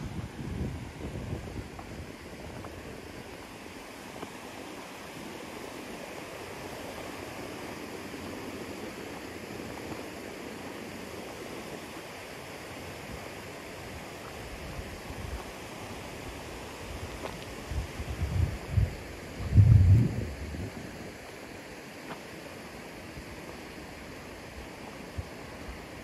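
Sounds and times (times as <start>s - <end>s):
flowing water rushing: 0.0s - 26.0s.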